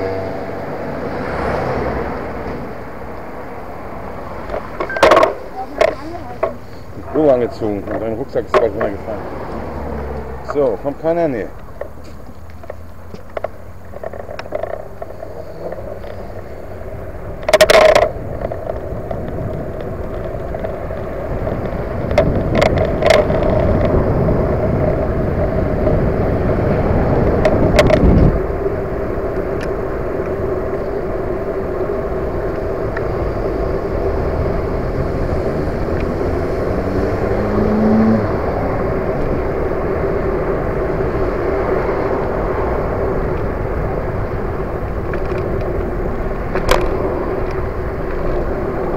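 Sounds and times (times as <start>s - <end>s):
bike rattling over bumps: 0.0s - 48.9s
tyre and wind noise: 0.0s - 48.9s.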